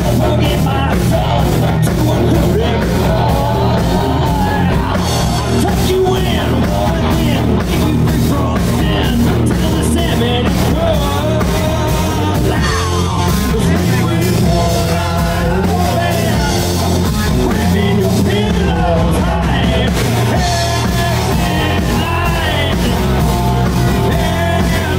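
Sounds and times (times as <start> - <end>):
drum kit: 0.0 - 24.9
electric guitars: 0.0 - 24.9
man singing: 0.0 - 24.9.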